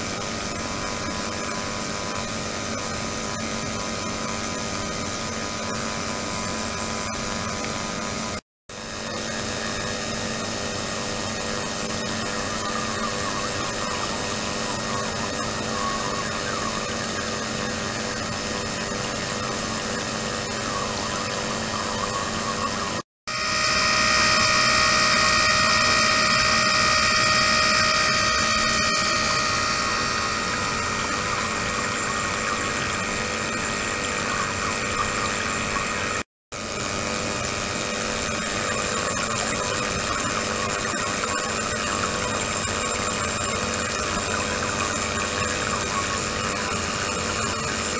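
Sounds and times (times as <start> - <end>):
high steady whining tones: 0.0 - 47.9.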